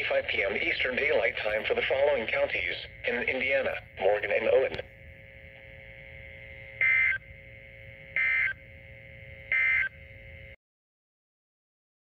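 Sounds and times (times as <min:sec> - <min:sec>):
buzzing digital data tones: 0:00.0 - 0:10.6
faint hum and hiss: 0:00.0 - 0:10.6.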